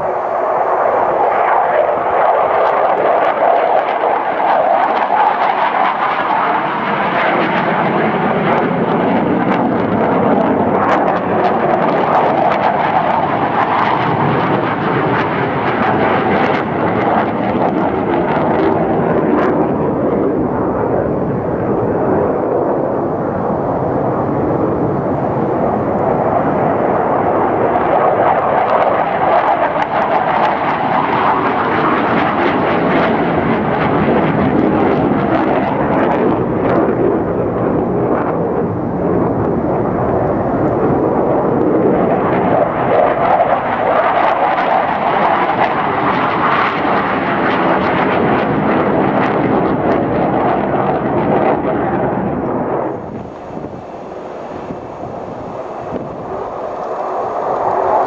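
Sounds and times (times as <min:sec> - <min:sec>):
jet engine crackles: 0:00.0 - 0:58.0
jet engine roar: 0:00.0 - 0:58.0.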